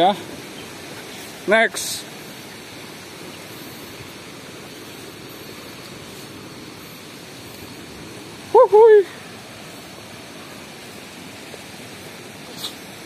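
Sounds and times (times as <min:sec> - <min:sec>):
sea surf washing ashore: 0:00.0 - 0:13.0.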